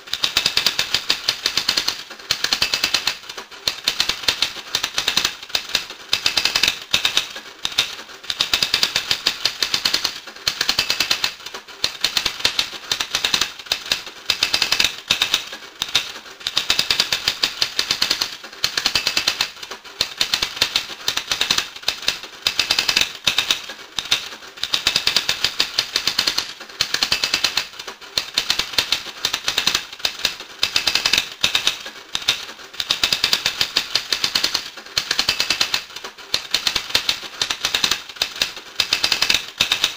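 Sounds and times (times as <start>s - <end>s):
rapid dense clicking: 0.0s - 39.9s.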